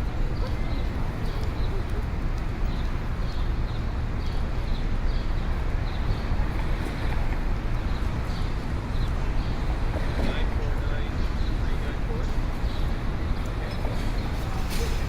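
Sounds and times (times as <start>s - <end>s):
crowd noise: 0.0s - 3.9s, 5.6s - 15.0s
traffic din: 0.0s - 15.0s.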